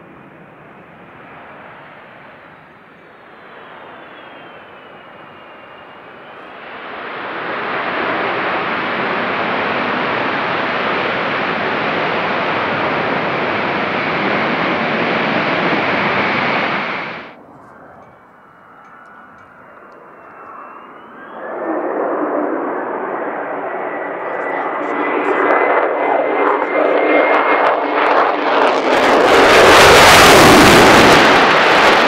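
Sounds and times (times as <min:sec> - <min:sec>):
distant jet whine: 0:00.0 - 0:32.0
jet engines roaring: 0:00.0 - 0:32.0.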